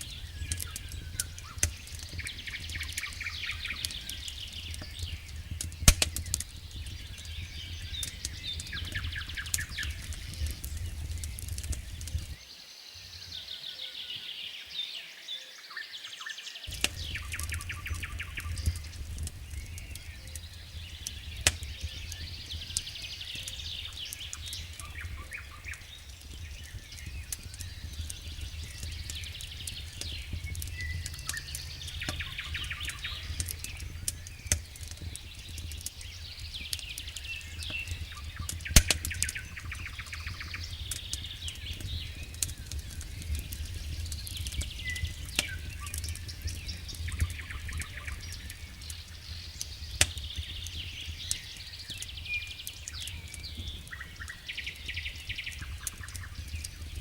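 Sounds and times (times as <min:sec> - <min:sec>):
sharp pops from fire: 0:00.0 - 0:12.4, 0:16.7 - 0:57.0
wood fire crackling: 0:00.0 - 0:12.4, 0:16.7 - 0:57.0.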